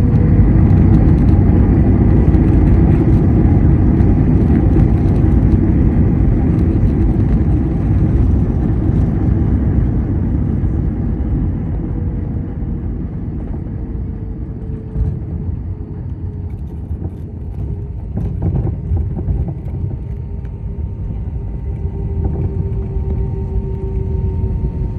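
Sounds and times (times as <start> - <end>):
airliner cabin rumble: 0.0 - 24.9
engine whine sliding down: 0.0 - 24.9.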